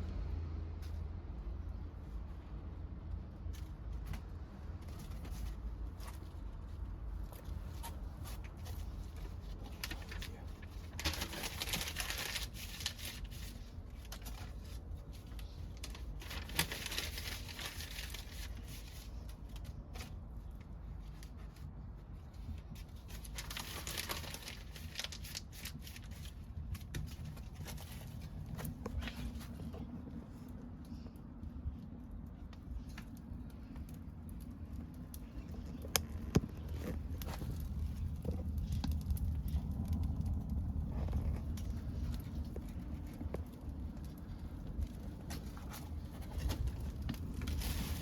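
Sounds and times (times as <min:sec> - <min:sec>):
wood fire crackling and popping: 0:03.3 - 0:48.0.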